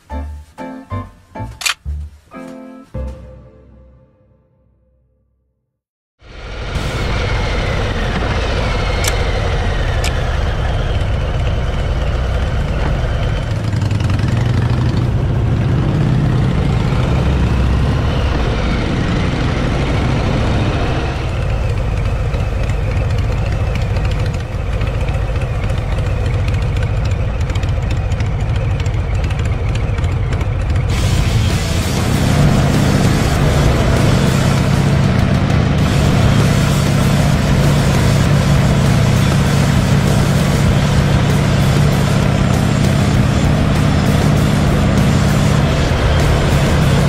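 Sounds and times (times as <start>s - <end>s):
wind and road noise: 6.2s - 47.0s
motorcycle engine running: 7.6s - 47.0s.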